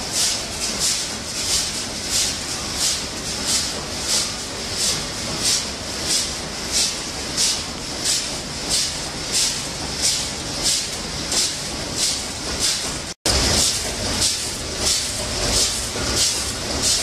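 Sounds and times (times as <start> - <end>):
machinery running: 0.0 - 17.0.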